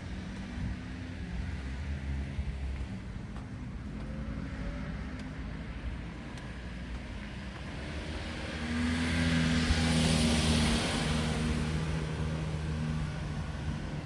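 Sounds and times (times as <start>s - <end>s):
car approaching: 0.0s - 14.0s.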